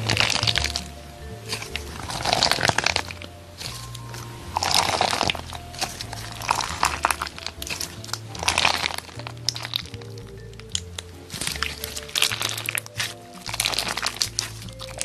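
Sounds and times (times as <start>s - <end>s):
jazzy music with walking bass: 0.0s - 15.0s
slime crunching and crackling: 0.0s - 15.0s.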